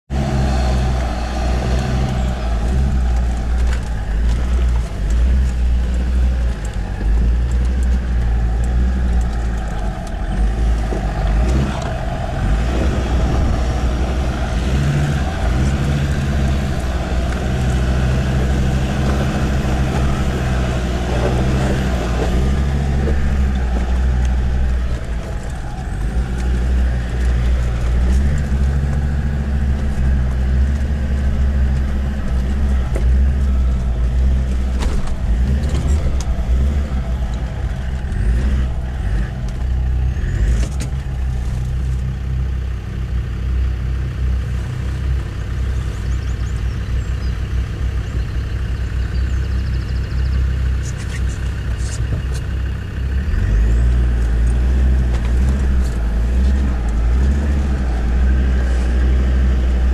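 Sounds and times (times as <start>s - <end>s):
diesel engine running: 0.0s - 59.9s
tyre and track noise: 0.1s - 59.9s.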